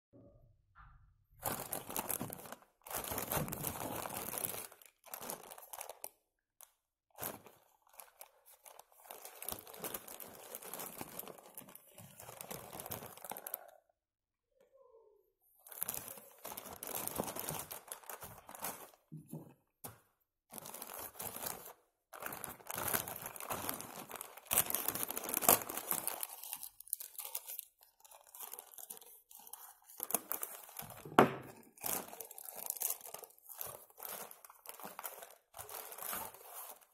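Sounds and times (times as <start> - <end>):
plastic mailer bag crinkling and tearing: 1.4 - 6.2, 7.2 - 13.8, 15.7 - 19.1, 20.5 - 36.9.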